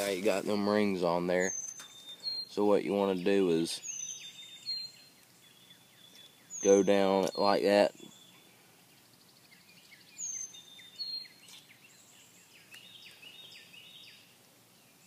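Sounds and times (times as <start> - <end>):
faint high bird chirps: 0.7 - 15.0.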